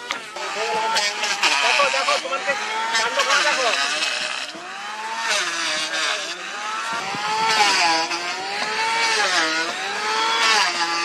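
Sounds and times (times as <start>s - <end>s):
circular saw cutting wood: 0.0s - 11.0s.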